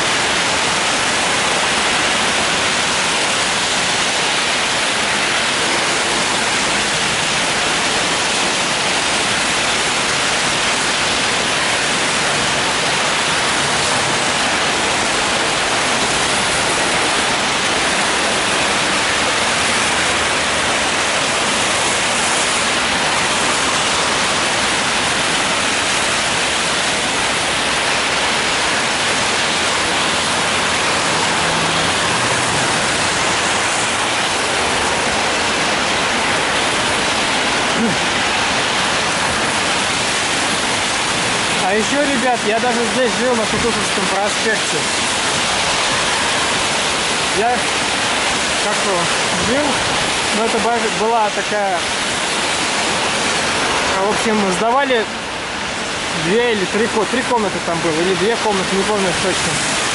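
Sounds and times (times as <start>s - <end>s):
rain on an umbrella: 0.0s - 59.9s
traffic on wet road: 0.0s - 59.9s.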